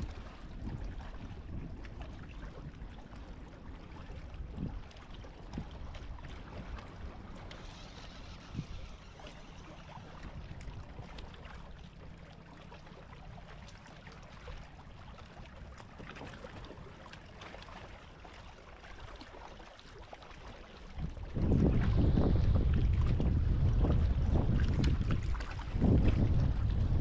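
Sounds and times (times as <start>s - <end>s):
low wind rumble on microphone: 0.0s - 18.0s, 20.8s - 27.0s
water lapping around kayak: 0.0s - 27.0s.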